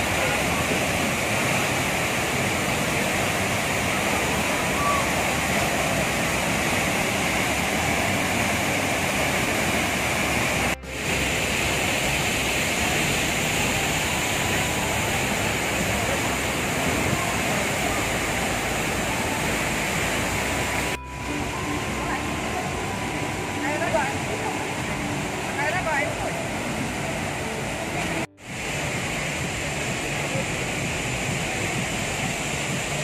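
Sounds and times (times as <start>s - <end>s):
water running over rocks: 0.0s - 33.0s
waterfall rushing: 0.0s - 33.0s.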